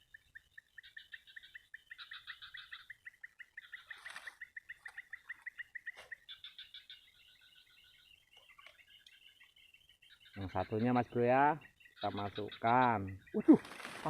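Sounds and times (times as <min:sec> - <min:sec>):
bird chirps: 0:00.0 - 0:14.0
bird trilling: 0:00.0 - 0:14.0
sharp bird calls: 0:00.0 - 0:14.0.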